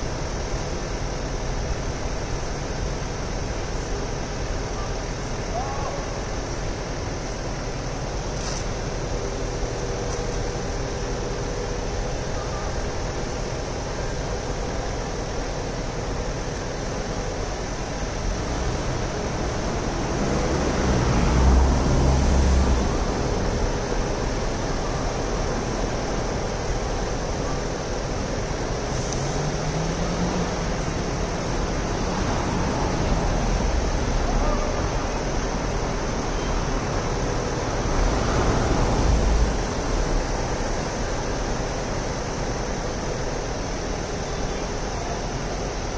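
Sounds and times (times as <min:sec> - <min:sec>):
city street noise: 0:00.0 - 0:45.9.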